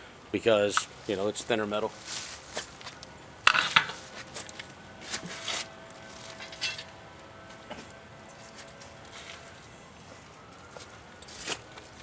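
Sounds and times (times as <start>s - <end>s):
light clunks and rustles: 1.9s - 12.0s.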